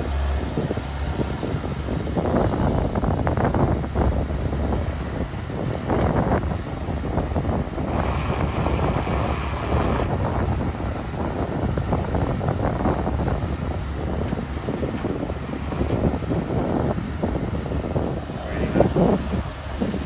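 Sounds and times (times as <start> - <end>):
diesel engine running: 0.0 - 20.0
hydraulics working: 0.0 - 20.0
wind buffeting microphone: 0.0 - 20.0.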